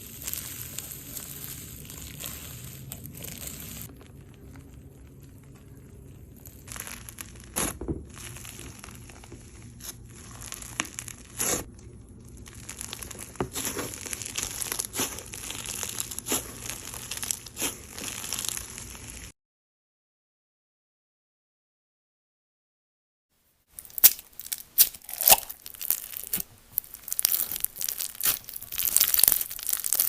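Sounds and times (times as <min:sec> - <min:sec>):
slime crackling: 0:00.0 - 0:19.3, 0:23.7 - 0:30.0.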